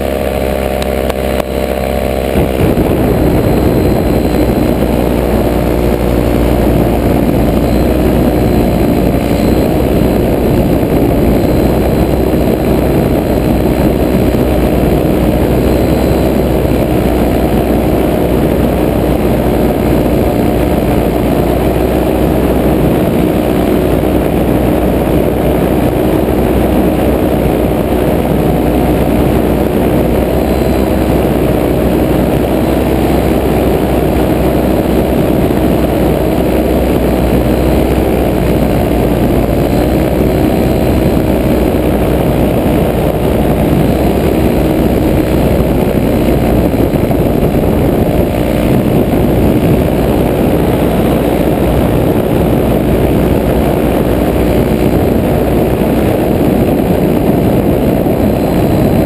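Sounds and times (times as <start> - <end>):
paramotor engine drone: 0.0 - 59.0.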